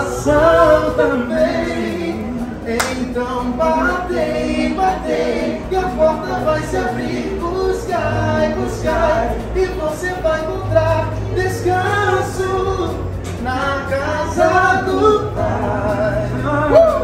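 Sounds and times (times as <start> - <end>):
song with sung vocals: 0.0 - 17.0
steady low bass: 0.0 - 17.0.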